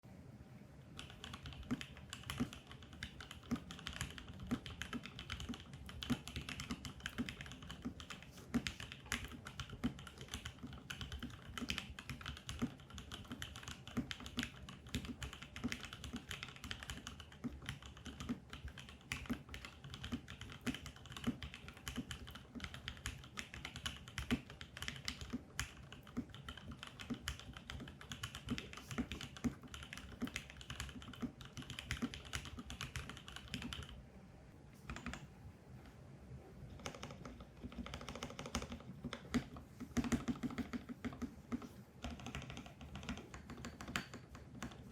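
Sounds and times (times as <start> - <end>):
mechanical keyboard typing: 1.0 - 34.0, 34.9 - 35.3, 36.7 - 44.9.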